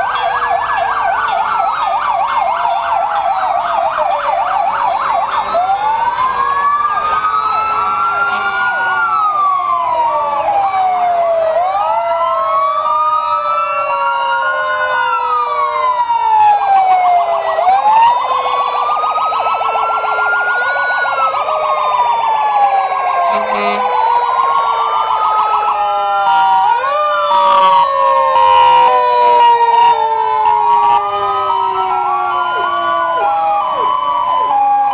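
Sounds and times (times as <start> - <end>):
emergency vehicle sirens wailing: 0.0 - 34.9.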